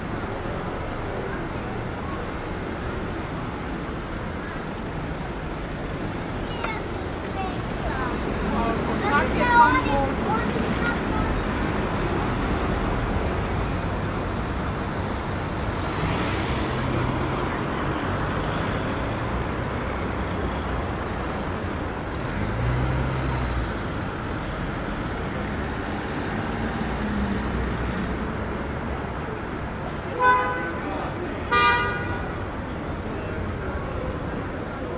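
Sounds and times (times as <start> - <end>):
passing vehicle engines: 0.0 - 34.9
road traffic noise: 0.0 - 34.9.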